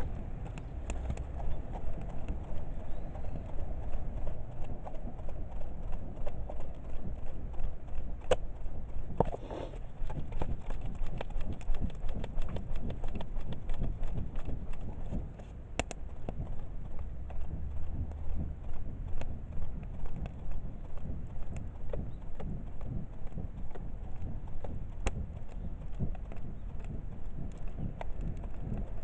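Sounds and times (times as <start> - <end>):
low rumble: 0.0 - 29.0
wood fire crackling: 0.0 - 29.0.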